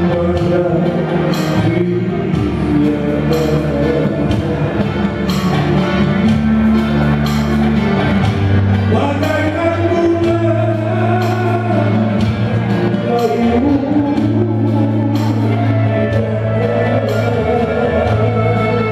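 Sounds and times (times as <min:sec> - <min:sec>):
bass: 0:00.0 - 0:18.9
person singing: 0:00.0 - 0:18.9.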